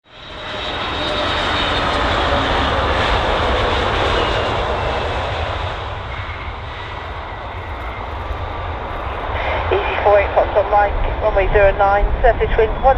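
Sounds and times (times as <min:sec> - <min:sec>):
airliner engines roaring: 0:00.0 - 0:12.9.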